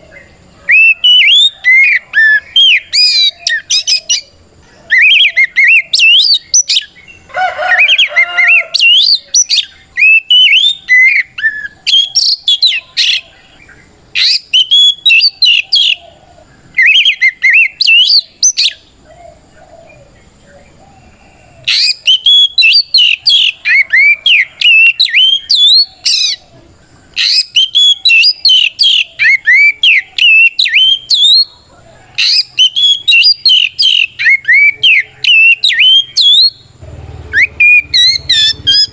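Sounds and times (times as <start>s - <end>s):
songbird singing whistled notes: 0.0s - 38.9s.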